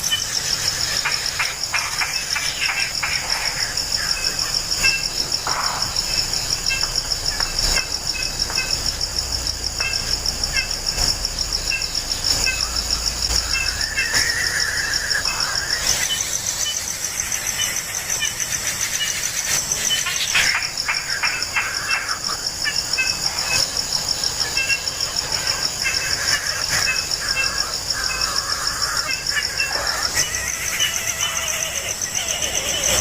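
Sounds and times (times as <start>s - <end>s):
insect trilling: 0.0s - 33.0s.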